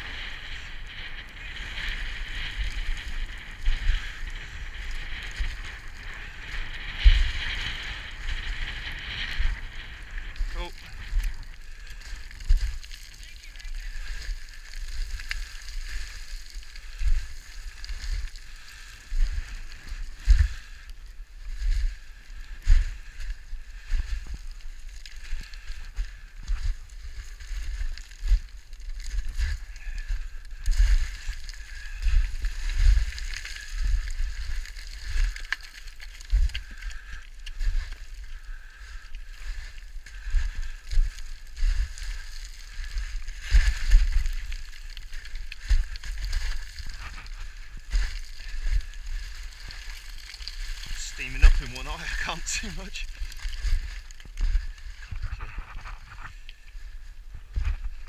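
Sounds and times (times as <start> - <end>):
footsteps on loose scree: 2.1 - 58.0.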